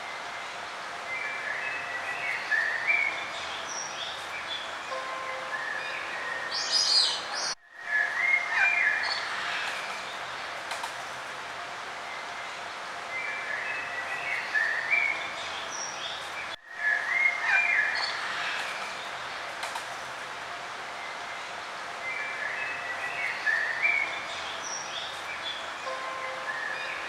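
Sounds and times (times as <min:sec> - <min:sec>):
steady background hiss: 0:00.0 - 0:27.0
songbirds singing: 0:01.1 - 0:10.5, 0:12.0 - 0:19.5, 0:21.0 - 0:27.0.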